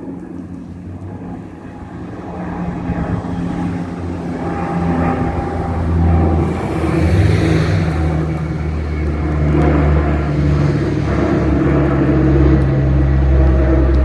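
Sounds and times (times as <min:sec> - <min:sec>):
turboprop plane droning: 0:00.0 - 0:14.0.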